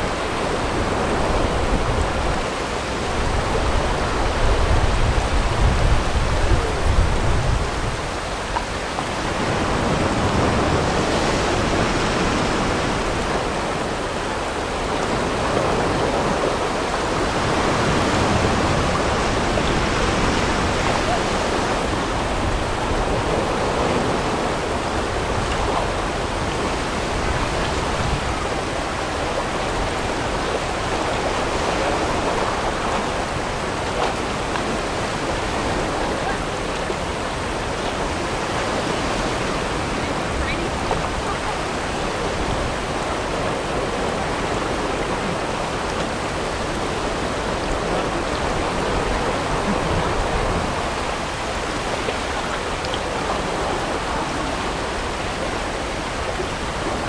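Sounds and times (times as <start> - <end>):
whitewater rapids rushing: 0.0 - 57.0.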